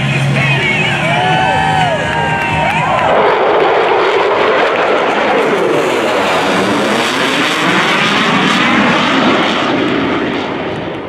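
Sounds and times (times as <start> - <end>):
fighter jet passing overhead: 0.0 - 11.0.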